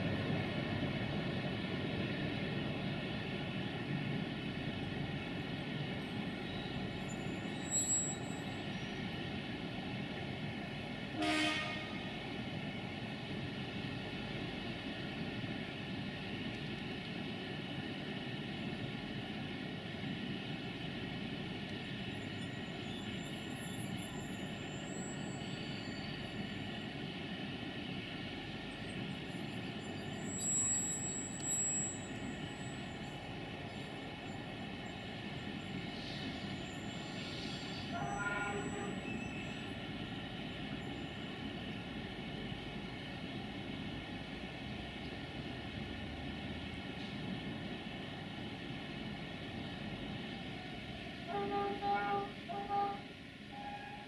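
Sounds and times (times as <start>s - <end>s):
electric locomotive drone: 0.0s - 54.0s
train wheels rumbling on rail: 0.0s - 54.0s.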